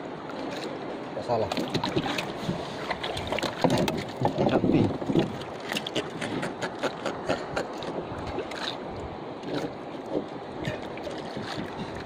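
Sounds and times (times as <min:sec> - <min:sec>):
water lapping against a boat hull: 0:00.0 - 0:12.0.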